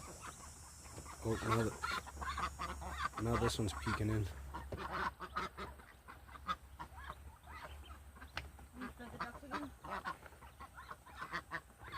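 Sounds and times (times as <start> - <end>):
hens clucking and chirping: 0.0 - 11.9.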